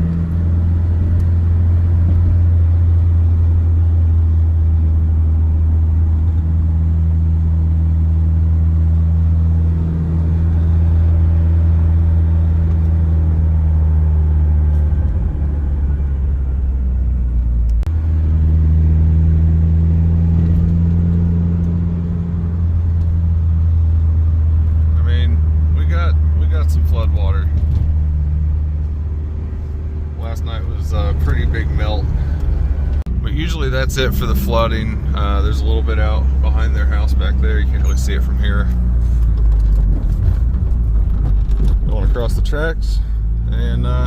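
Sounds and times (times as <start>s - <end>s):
car engine and road drone: 0.0s - 44.0s.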